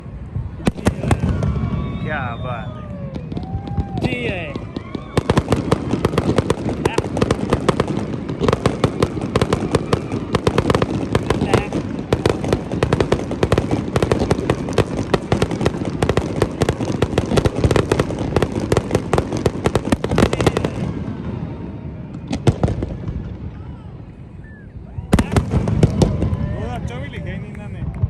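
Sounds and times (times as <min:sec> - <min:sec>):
fireworks crackling bangs: 0:00.0 - 0:24.2, 0:25.0 - 0:28.0.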